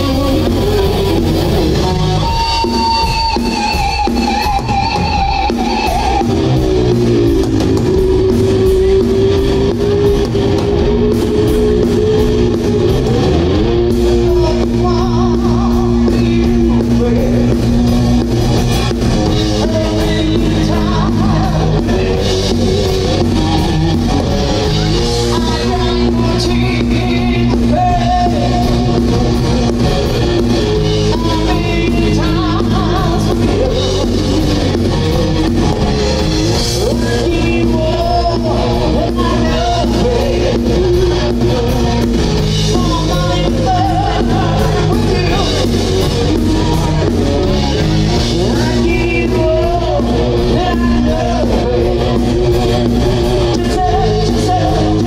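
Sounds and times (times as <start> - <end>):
bass guitar: 0.0 - 55.0
drum kit: 0.0 - 55.0
electric guitar lead notes: 0.0 - 55.0.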